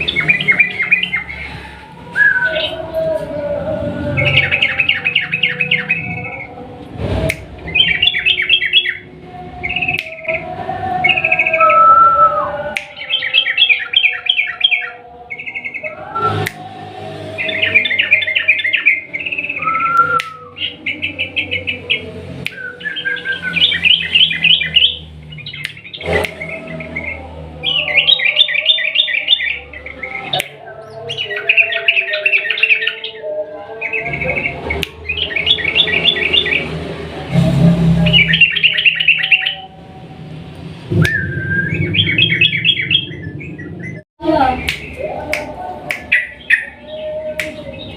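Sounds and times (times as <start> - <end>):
bird singing rapid repeated notes: 0.0 - 6.7, 7.4 - 36.9, 37.8 - 40.1, 40.8 - 47.9.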